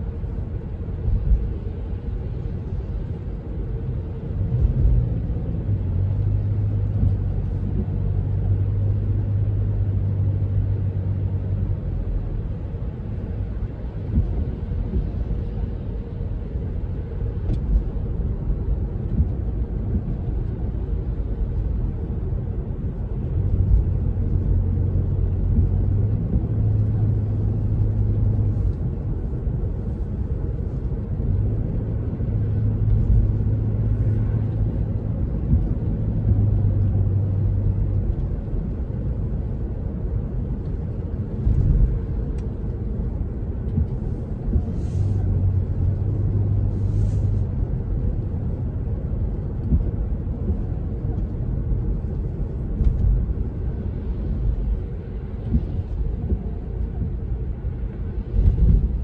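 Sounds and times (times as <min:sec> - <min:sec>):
road and engine noise in car: 0:00.0 - 0:59.0.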